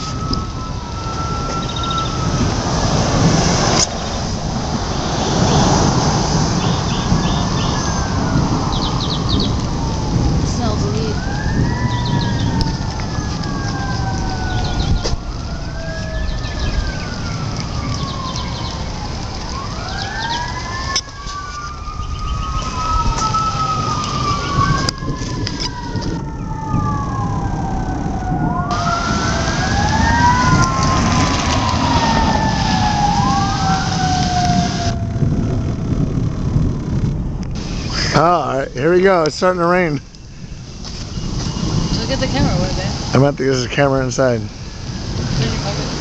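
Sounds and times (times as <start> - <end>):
fire engine sirens wailing: 0.0 - 46.0
low rumble: 0.0 - 46.0.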